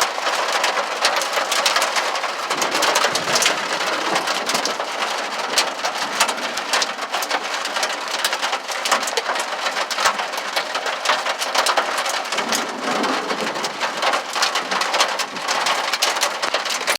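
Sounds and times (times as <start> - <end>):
hail ticking on hard surfaces: 0.0 - 16.9.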